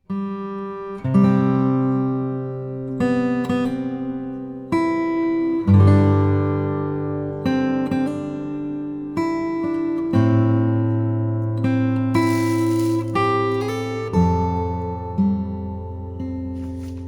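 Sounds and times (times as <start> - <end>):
acoustic guitar strumming chords: 0.1 - 17.0.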